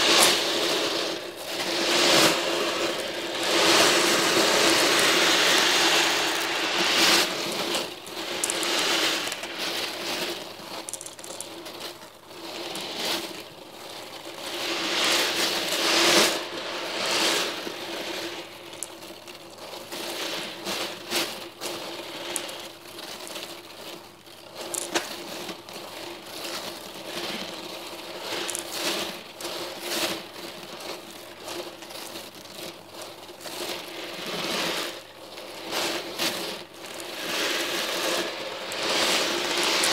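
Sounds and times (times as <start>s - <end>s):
metal balls rattling and clicking: 0.0s - 39.9s.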